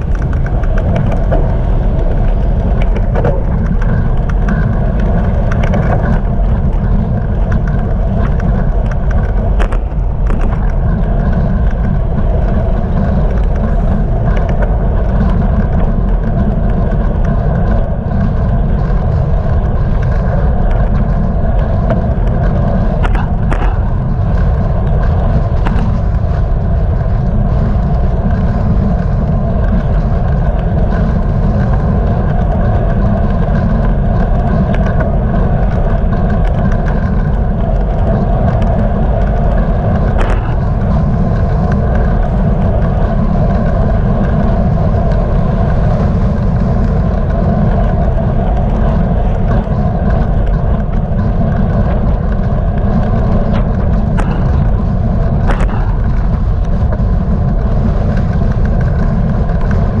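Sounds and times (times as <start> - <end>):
bike sharp clicks: 0.0 - 60.0
tyre road rumble on asphalt: 0.0 - 60.0
wind on microphone: 0.0 - 60.0.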